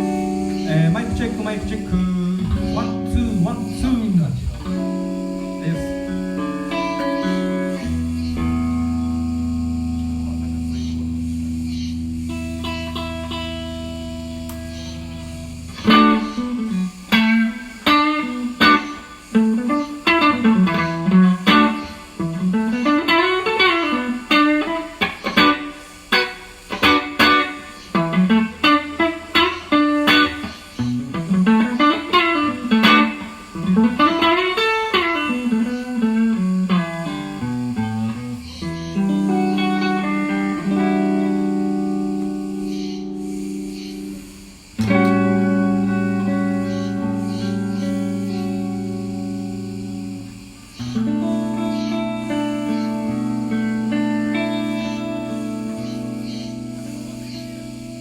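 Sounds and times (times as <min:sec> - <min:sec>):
guitar playing: 0:00.0 - 0:58.0.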